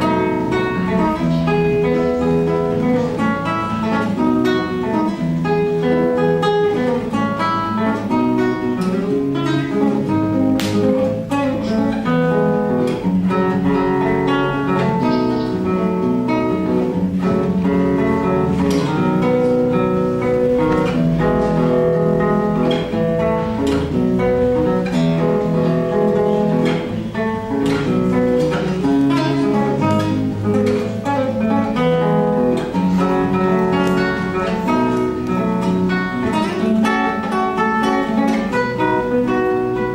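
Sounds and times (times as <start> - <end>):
solo instrumental melody: 0.0 - 39.9.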